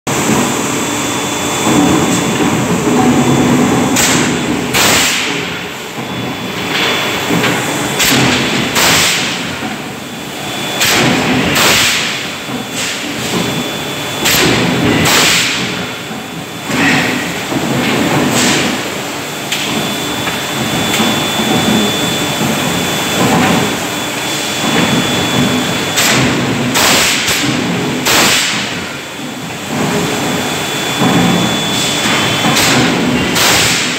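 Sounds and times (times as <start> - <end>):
machinery and fan drone: 0.1 - 33.9.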